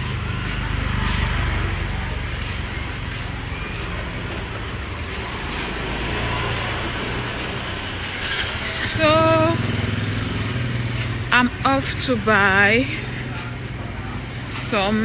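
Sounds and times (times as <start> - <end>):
passing vehicles rushing: 0.0 - 15.0.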